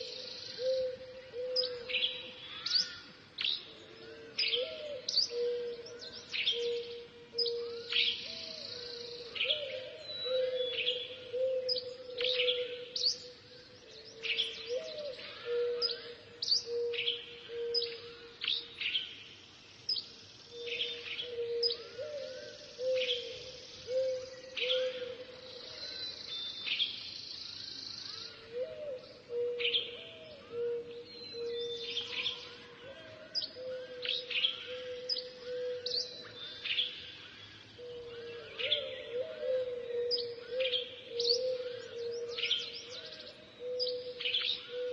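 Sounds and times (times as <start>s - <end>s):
low hooting bird call: 0.0s - 3.1s, 3.8s - 13.4s, 14.1s - 18.7s, 20.5s - 26.8s, 28.0s - 44.9s.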